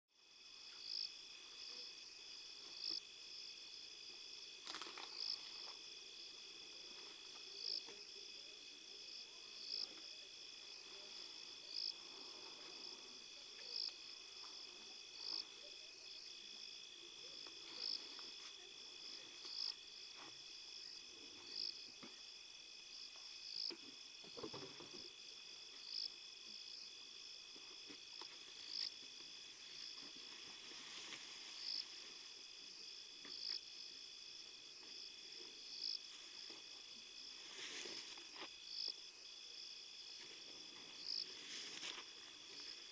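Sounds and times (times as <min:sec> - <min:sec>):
night insects trilling: 0:00.2 - 0:42.9.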